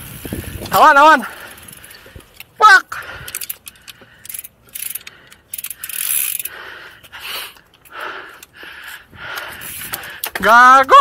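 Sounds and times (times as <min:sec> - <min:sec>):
bike chain and ratchet clicking: 0:00.0 - 0:11.0.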